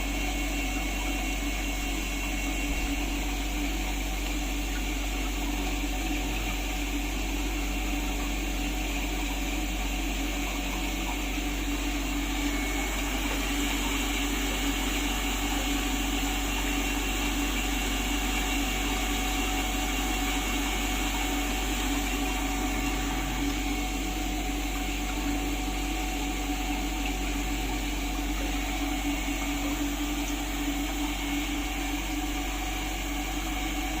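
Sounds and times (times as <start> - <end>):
humidifier hiss: 0.0 - 34.0
humidifier motor hum: 0.0 - 34.0.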